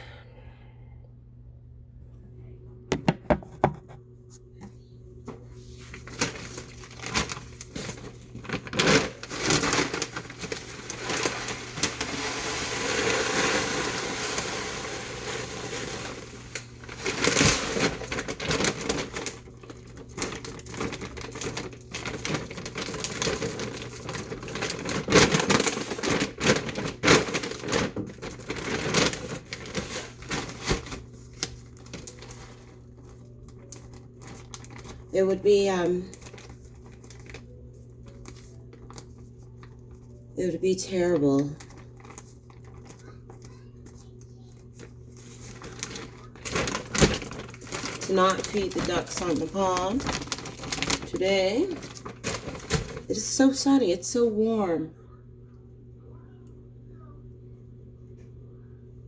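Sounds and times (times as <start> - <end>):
faint low hum: 0.0 - 12.3, 15.2 - 59.0
rustling and crinkling: 3.6 - 53.7.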